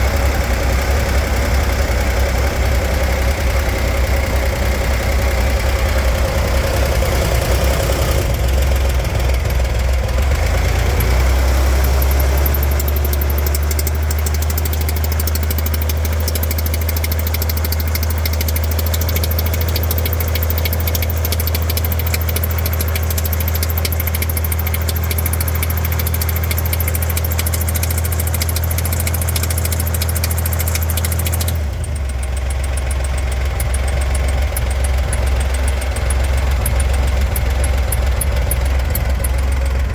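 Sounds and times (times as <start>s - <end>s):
car engine running: 0.0s - 39.9s
rapid engine chattering: 0.0s - 39.9s.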